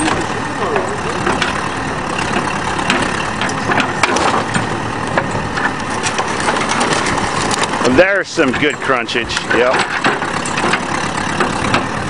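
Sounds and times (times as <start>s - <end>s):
backhoe engine running: 0.0s - 12.0s
metal crunching and clanking: 0.0s - 12.0s.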